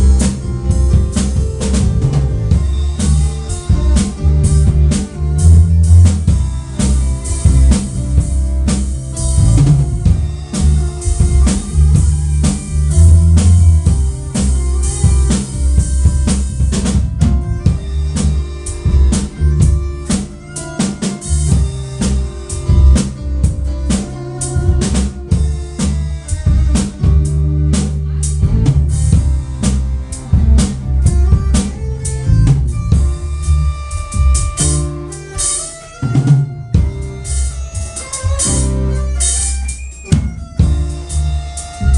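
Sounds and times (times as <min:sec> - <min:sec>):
bass line: 0:00.0 - 0:41.9
drum kit: 0:00.0 - 0:41.9.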